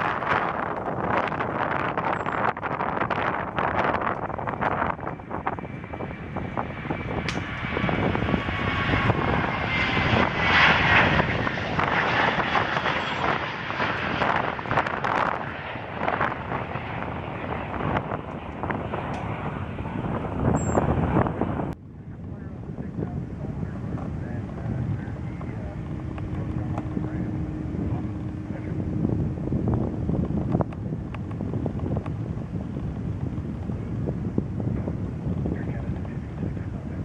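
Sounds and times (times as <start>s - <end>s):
airplane engine passing: 0.0s - 37.0s.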